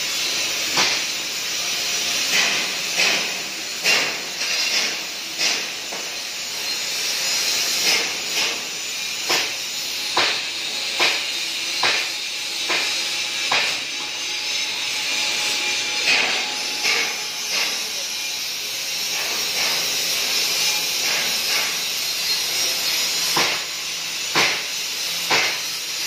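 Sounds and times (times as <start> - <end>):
welding arc hissing: 0.0 - 26.0.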